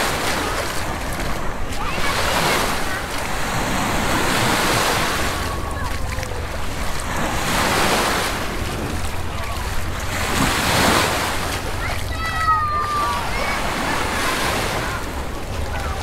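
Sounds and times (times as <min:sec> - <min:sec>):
waves washing on sand: 0:00.0 - 0:16.0.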